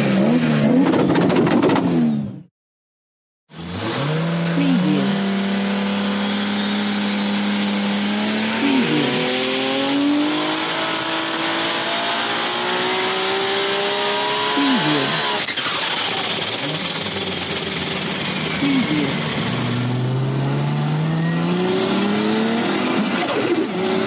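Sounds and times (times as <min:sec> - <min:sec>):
racing car engine: 0:03.5 - 0:24.0.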